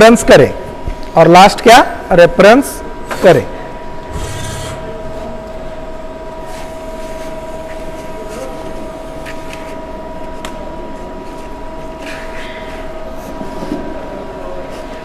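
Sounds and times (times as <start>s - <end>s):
lathe machine hum with whine: 0.0s - 15.0s.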